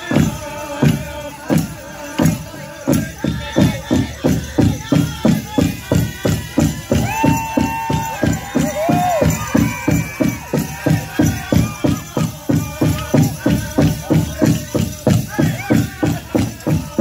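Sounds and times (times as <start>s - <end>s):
big drum beating: 0.0s - 17.0s
high held singing: 0.0s - 17.0s.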